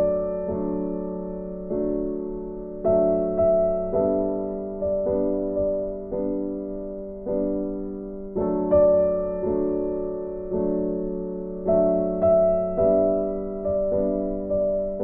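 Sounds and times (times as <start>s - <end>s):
slow gentle piano tune: 0.0s - 15.0s.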